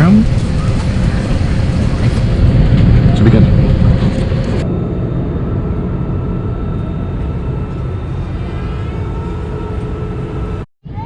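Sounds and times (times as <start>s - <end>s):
faint whine tones: 0.0s - 10.7s
airliner engine drone in cabin: 0.0s - 11.0s.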